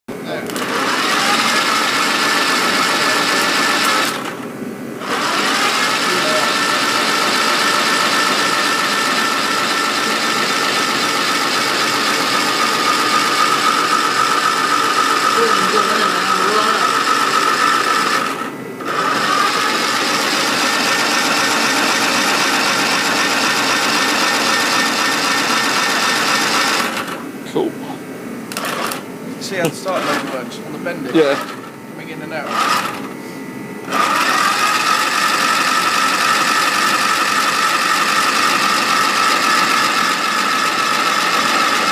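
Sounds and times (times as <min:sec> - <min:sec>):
held whine: 0:00.1 - 0:41.9.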